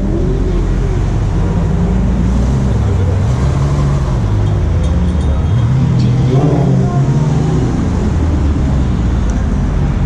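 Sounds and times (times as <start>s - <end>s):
deep rumble of car engines: 0.0s - 10.0s.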